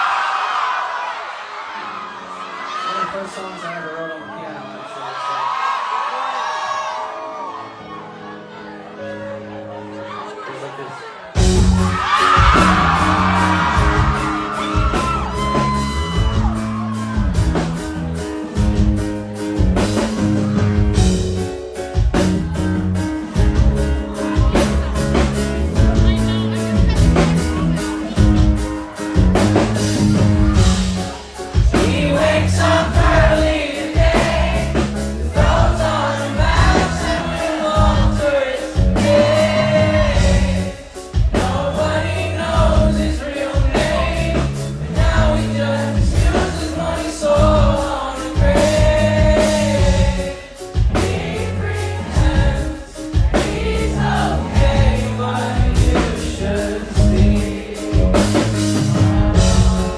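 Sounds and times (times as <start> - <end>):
low bass notes: 11.4 - 59.9.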